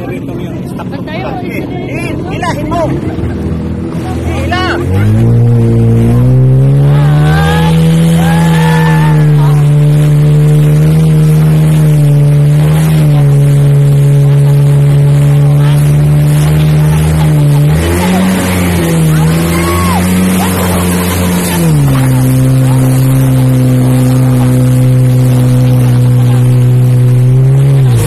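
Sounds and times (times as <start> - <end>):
jet ski engine running: 0.0 - 28.0
water spray rushing: 5.0 - 28.0.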